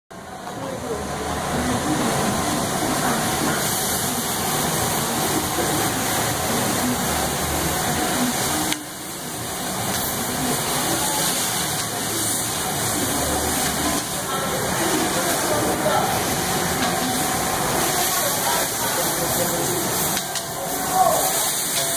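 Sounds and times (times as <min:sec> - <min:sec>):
food sizzling on a griddle: 0:00.5 - 0:21.9.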